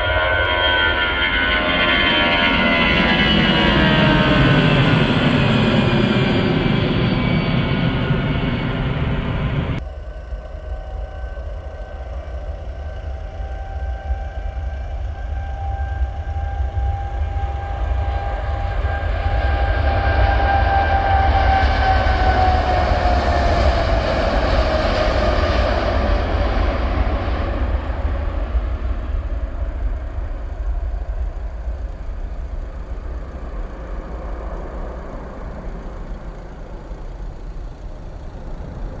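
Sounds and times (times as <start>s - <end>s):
jet engines at take-off thrust: 0.0s - 39.0s.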